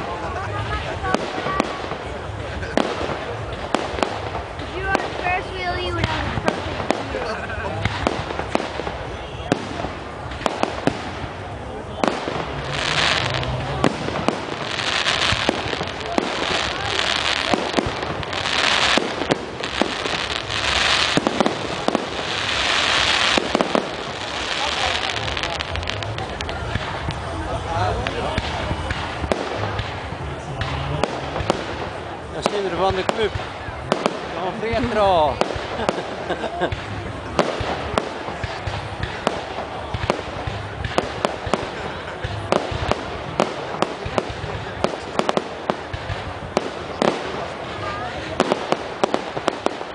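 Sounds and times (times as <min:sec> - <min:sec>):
firework crackling hiss: 0:00.0 - 0:49.9
steady background noise: 0:00.0 - 0:49.9.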